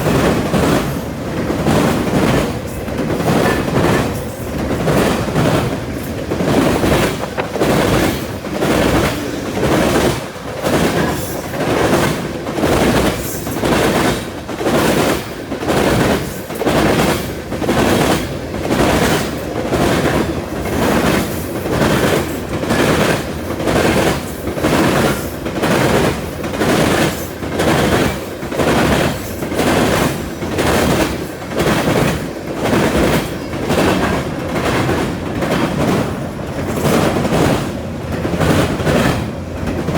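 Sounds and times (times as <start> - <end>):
train wheels clacking over rail: 0.0 - 39.9.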